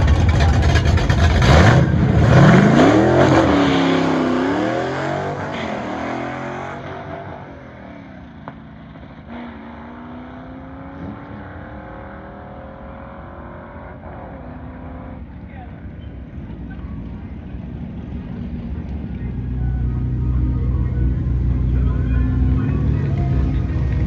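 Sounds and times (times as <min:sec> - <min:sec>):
drag car engine accelerating: 0:00.0 - 0:24.0.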